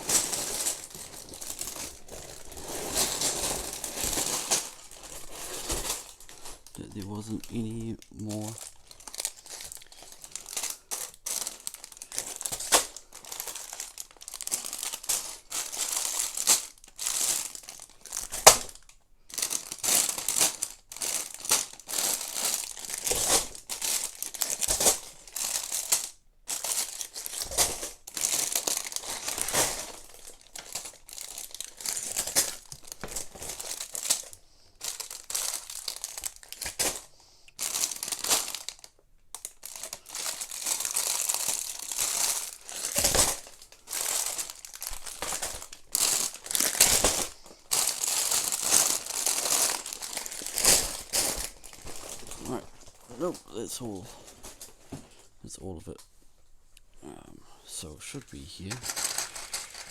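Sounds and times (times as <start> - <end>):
plastic bag rustling: 0.0 - 56.2, 57.9 - 59.9.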